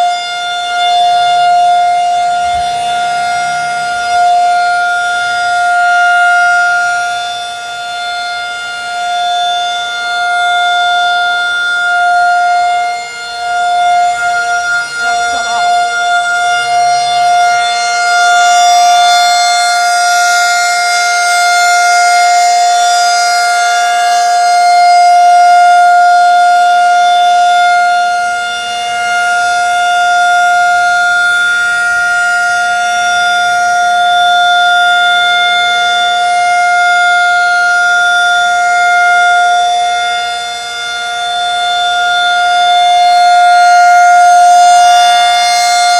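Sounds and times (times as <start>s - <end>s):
warning siren steady tone: 0.0s - 45.9s.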